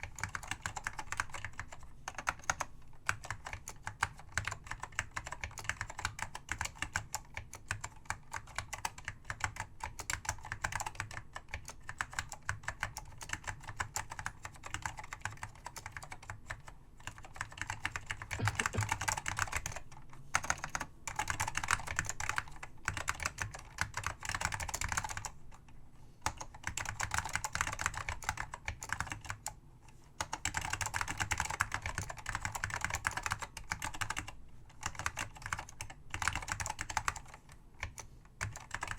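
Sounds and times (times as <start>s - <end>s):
fast keyboard typing: 0.0s - 19.8s, 20.4s - 25.4s, 26.2s - 29.6s, 30.2s - 38.9s.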